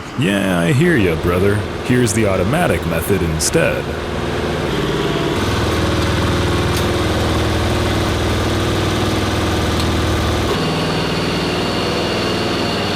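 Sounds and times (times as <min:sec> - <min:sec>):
ammunition loading machine drone: 0:00.9 - 0:12.9.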